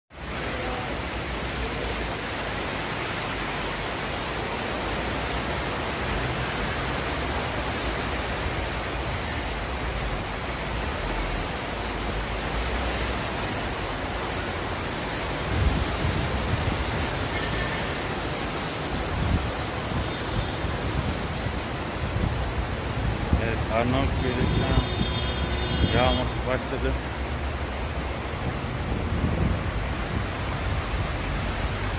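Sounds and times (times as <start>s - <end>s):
heavy rain pouring: 0.1s - 31.9s.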